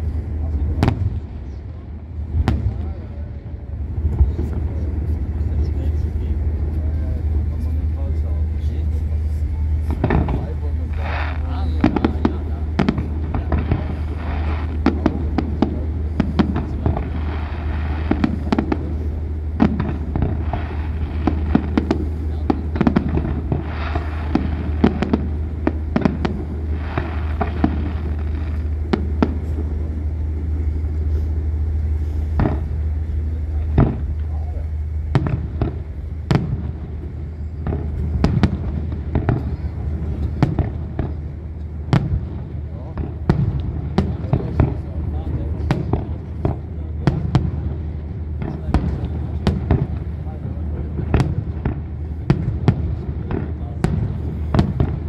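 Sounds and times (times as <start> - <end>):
fireworks bangs and crackles: 0.0 - 55.0
low rumble: 0.0 - 55.0.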